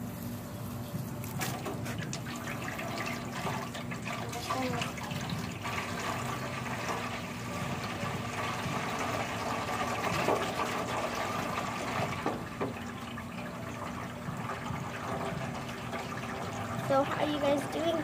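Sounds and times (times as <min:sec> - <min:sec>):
hose water filling plastic tub: 0:01.4 - 0:18.0.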